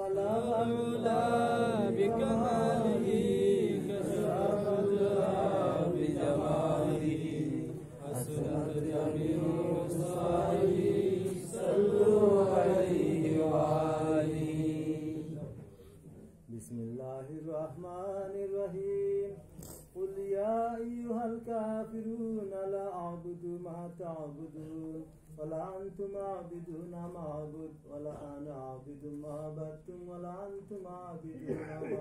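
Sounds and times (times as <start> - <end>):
men chanting a devotional song: 0.0 - 32.0.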